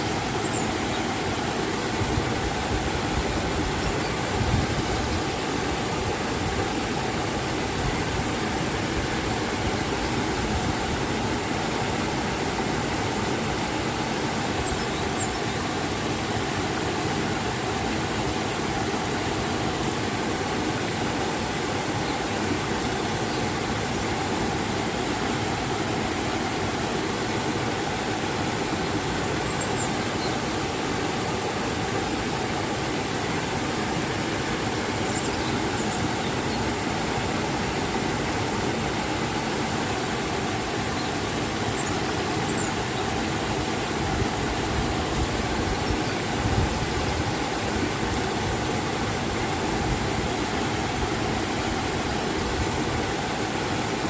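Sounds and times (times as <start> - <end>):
river and waterfall rushing: 0.0 - 54.0.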